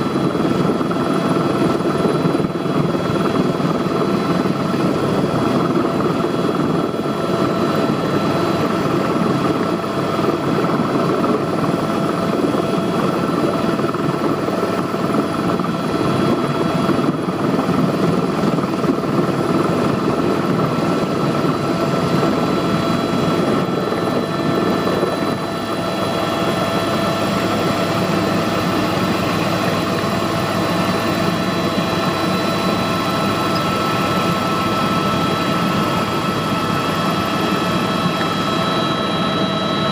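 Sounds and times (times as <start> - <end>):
constant whining tones: 0.0 - 39.9
helicopter engine and rotor drone: 0.0 - 39.9.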